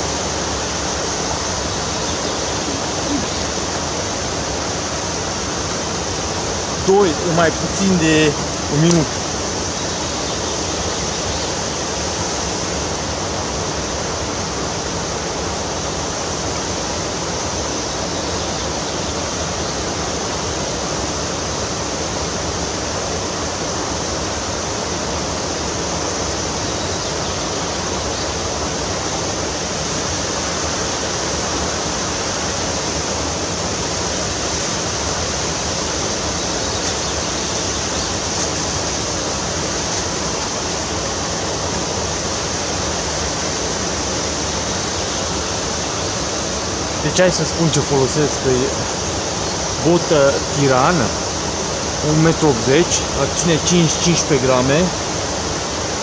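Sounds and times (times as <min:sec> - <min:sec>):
fast-flowing water rushing: 0:00.0 - 0:56.0.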